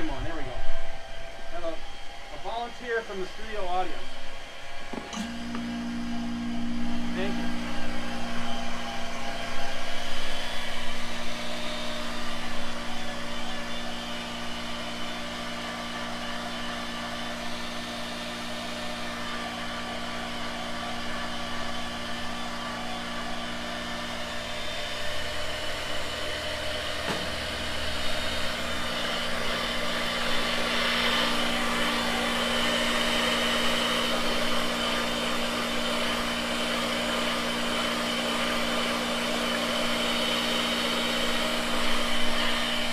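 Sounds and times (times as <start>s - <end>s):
electric hand mixer running: 0.0s - 42.9s.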